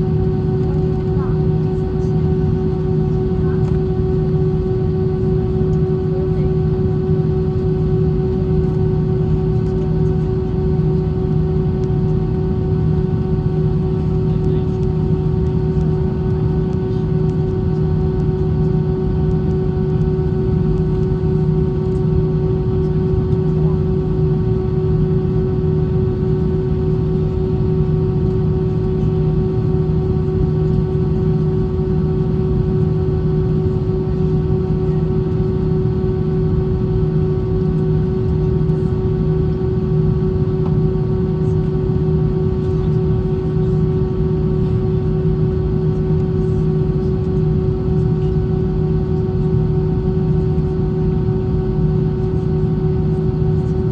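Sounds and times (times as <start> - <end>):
airplane cabin engine drone: 0.0 - 53.9.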